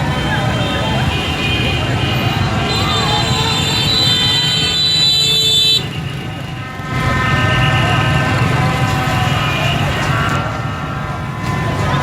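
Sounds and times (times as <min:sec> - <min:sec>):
horns blaring: 0:00.0 - 0:12.0
motorbike engines rumbling: 0:00.0 - 0:12.0.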